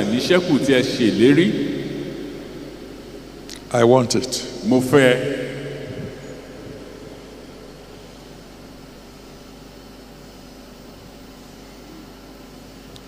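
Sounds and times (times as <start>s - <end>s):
background hiss: 0.0s - 13.0s
low constant hum: 0.0s - 13.0s.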